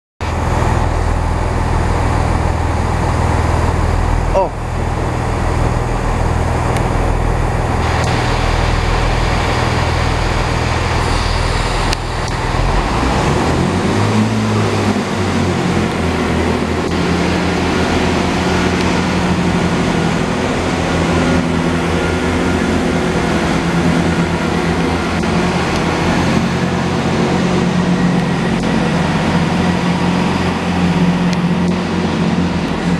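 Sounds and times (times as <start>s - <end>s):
diesel engines idling: 0.2s - 32.9s.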